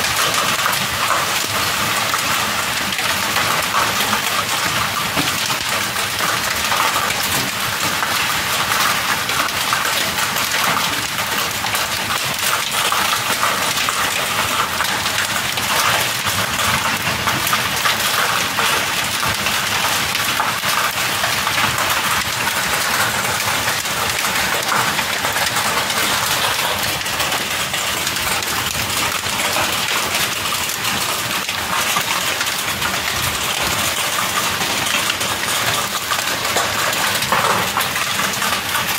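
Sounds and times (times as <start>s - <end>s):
rain and hail on metal roof: 0.0s - 38.9s.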